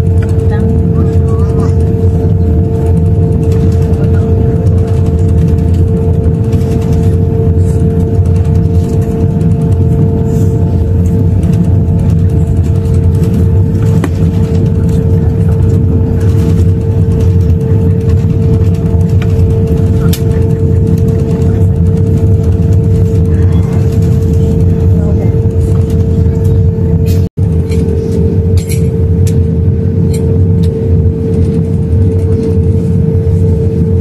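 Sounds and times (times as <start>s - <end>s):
jet engines rumbling in cabin: 0.0s - 34.0s.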